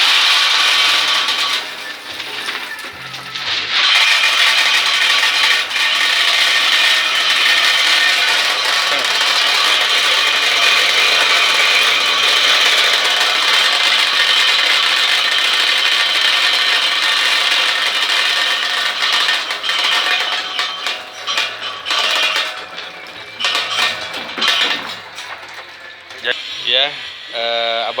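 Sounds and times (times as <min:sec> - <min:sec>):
nut-cracking machine rattling: 0:00.0 - 0:28.0.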